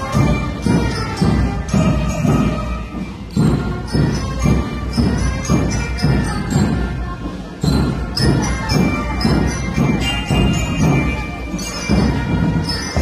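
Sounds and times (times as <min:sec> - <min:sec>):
bell-like melody notes: 0:00.0 - 0:13.0
marching drums beating: 0:00.0 - 0:13.0.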